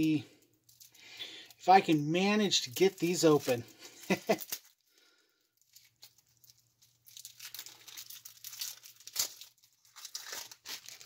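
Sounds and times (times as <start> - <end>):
plastic wrapper tearing and crinkling: 0.0 - 11.0.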